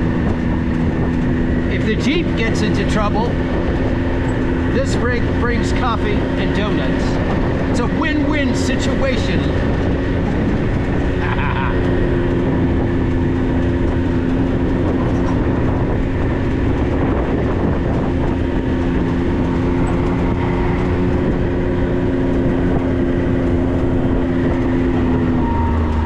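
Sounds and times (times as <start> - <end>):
road rumble: 0.0 - 26.0
vehicle engine drone: 0.0 - 26.0.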